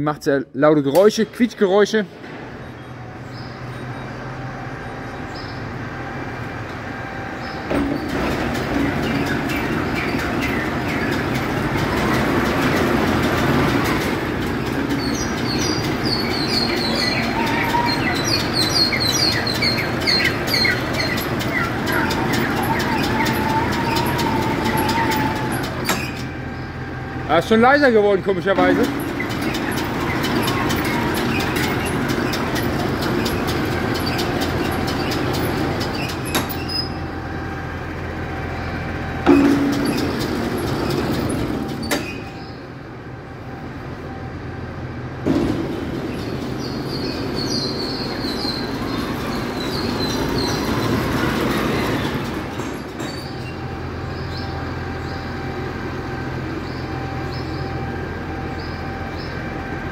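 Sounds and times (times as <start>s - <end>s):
tractor driving: 0.0s - 59.9s
metal squealing: 6.9s - 37.6s, 38.4s - 42.8s, 45.3s - 59.4s.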